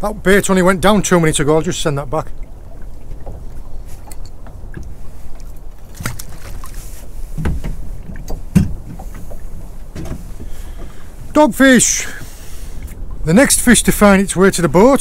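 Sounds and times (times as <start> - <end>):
low rumble of water and wind: 0.0 - 15.0.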